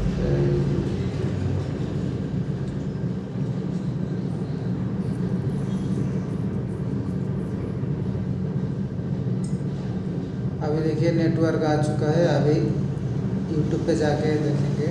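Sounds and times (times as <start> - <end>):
low background rumble: 0.0 - 14.9.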